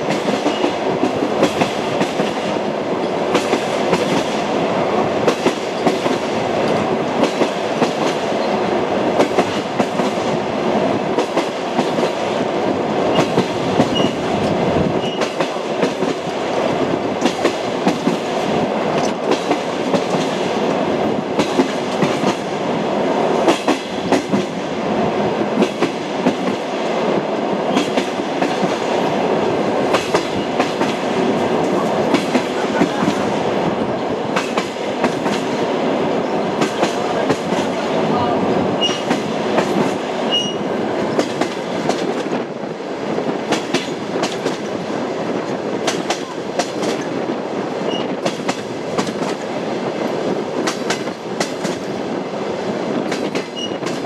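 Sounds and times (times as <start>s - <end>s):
train wheels clicking over rail joints: 0.0s - 4.6s, 5.2s - 10.4s, 11.0s - 22.6s, 23.3s - 24.7s, 25.4s - 35.7s, 38.8s - 52.1s, 52.8s - 54.0s
train rolling rumble: 0.0s - 54.0s.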